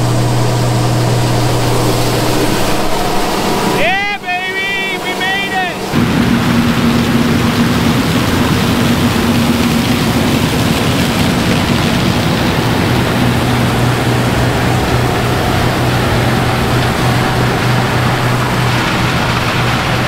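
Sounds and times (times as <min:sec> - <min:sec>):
combine harvester running: 0:00.0 - 0:20.0
engine hum: 0:00.0 - 0:20.0.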